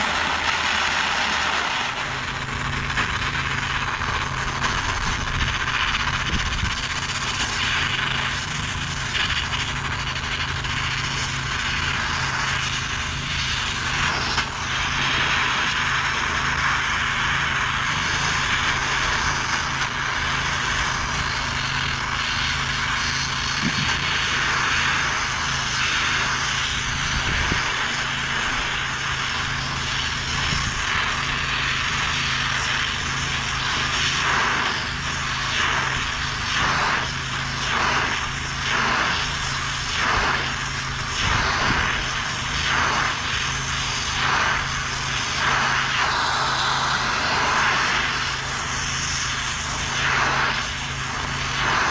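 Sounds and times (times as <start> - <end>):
plasma torch hissing: 0.0 - 51.9.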